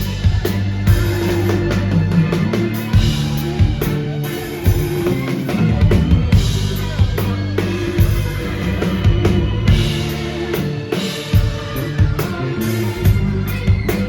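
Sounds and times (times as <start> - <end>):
drum kit beat: 0.0 - 14.0
sustained bass and chords: 0.0 - 14.0.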